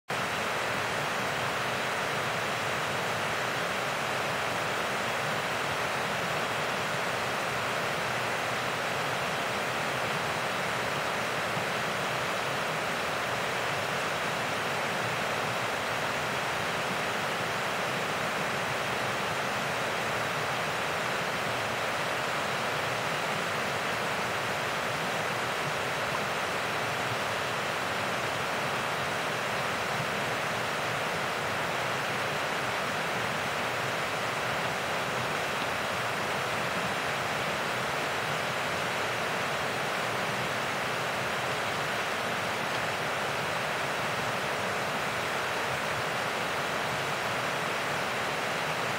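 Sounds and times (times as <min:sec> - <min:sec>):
stream cascading over rocks: 0:00.1 - 0:48.9.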